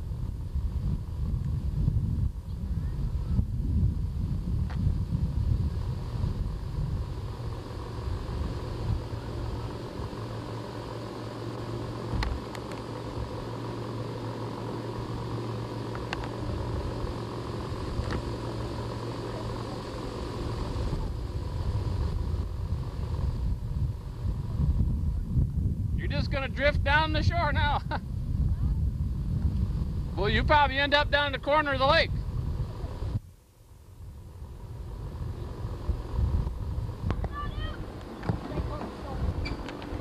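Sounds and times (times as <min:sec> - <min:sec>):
steady low hum: 0:00.0 - 0:40.0
wind rumbling on microphone: 0:00.0 - 0:40.0.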